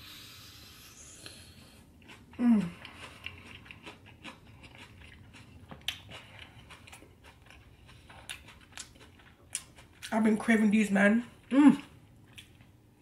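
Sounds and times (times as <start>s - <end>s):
person chewing food: 0.8s - 10.1s, 11.4s - 12.8s.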